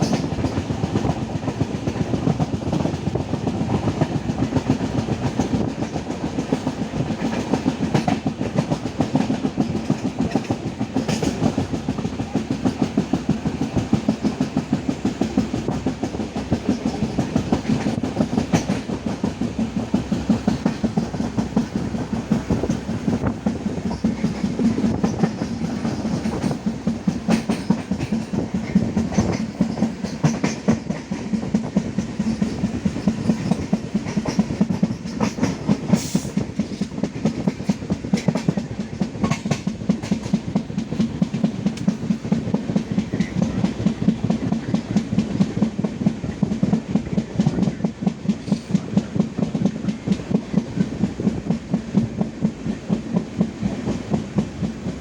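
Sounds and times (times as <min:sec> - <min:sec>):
train low rumble: 0:00.0 - 0:55.0
train wheels clicking over rail joints: 0:00.0 - 0:55.0.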